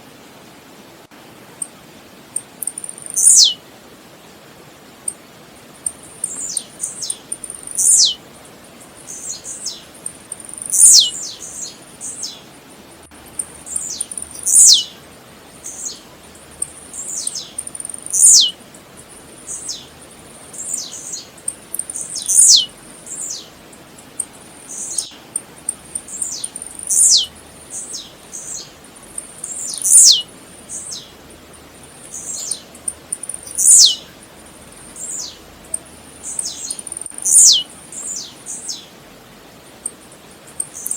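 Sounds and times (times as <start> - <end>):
faint high hiss: 0.0 - 40.9.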